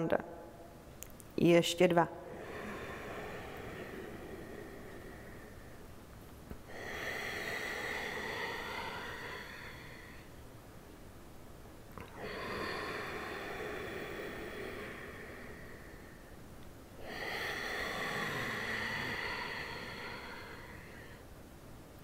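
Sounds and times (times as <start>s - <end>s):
woman breathing deeply through nose: 2.2s - 11.1s, 12.0s - 21.6s.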